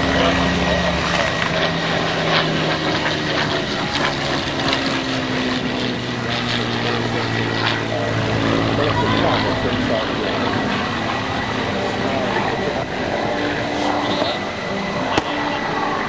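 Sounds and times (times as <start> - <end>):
propeller plane engine: 0.0 - 16.0.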